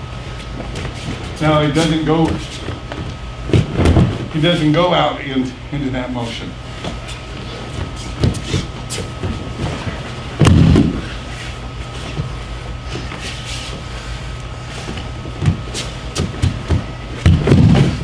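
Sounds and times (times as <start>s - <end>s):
knocks and shuffles on mat: 0.2s - 5.0s, 6.2s - 18.0s
body thudding on mats: 0.3s - 4.9s, 6.7s - 14.0s, 14.7s - 18.0s.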